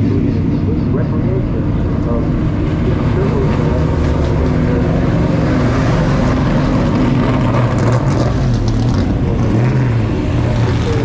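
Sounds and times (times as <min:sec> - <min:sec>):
race car engine rumbling: 0:00.0 - 0:11.0.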